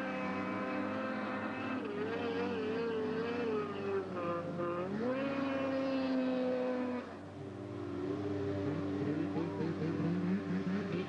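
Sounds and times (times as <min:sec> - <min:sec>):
snowmobile engines at high revs: 0:00.0 - 0:11.0.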